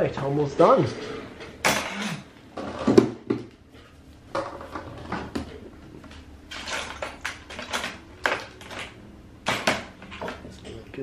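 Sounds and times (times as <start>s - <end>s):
foot-care instruments clicking and scraping: 0.2s - 11.0s.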